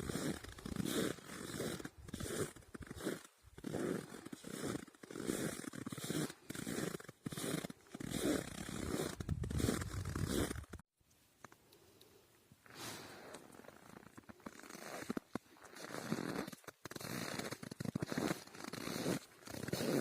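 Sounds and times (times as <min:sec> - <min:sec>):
footsteps crunching on frozen snow: 0:00.0 - 0:10.7, 0:12.7 - 0:20.0.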